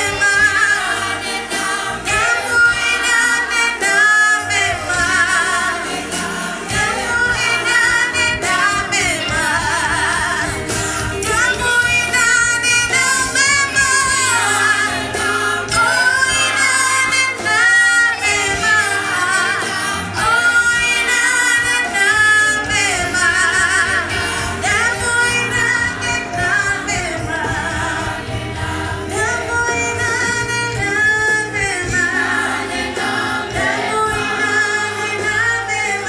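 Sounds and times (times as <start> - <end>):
gospel choir singing with band: 0.0 - 36.0.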